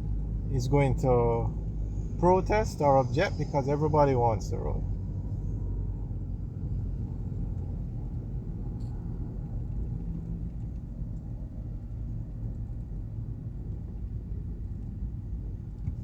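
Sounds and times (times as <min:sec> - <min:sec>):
car engine rumble: 0:00.0 - 0:16.0.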